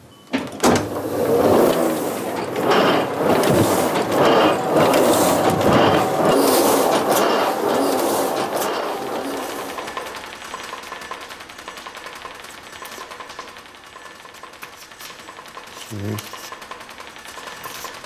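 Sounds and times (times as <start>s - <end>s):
printing press clattering: 0.3s - 18.0s.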